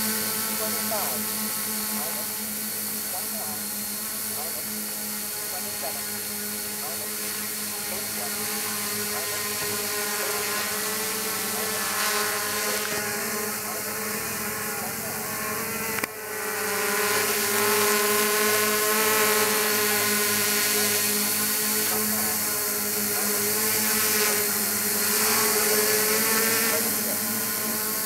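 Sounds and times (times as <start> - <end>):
drone motors buzzing: 0.0 - 28.0.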